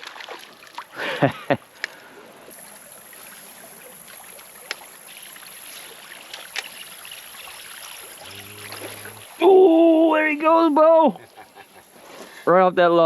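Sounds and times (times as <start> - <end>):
water moving around boat: 0.0 - 12.5.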